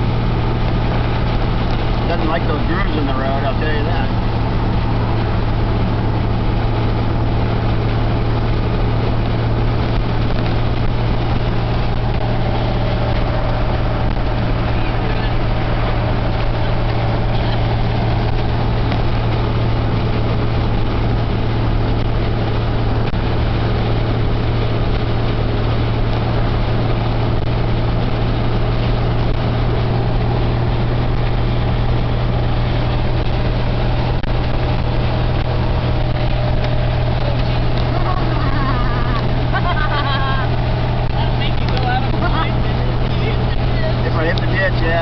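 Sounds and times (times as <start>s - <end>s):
car engine drone: 0.0s - 45.0s
road and wind noise: 0.0s - 45.0s.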